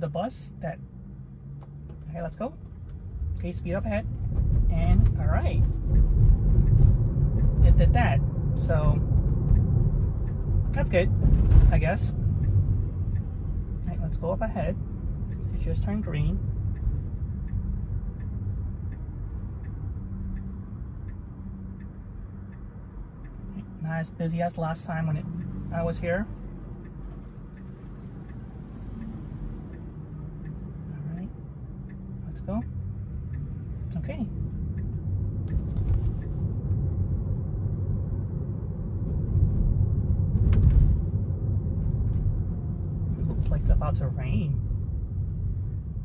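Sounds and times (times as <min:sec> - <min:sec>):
road and tyre rumble: 0:00.0 - 0:46.0
turn signal ticking: 0:00.0 - 0:46.0.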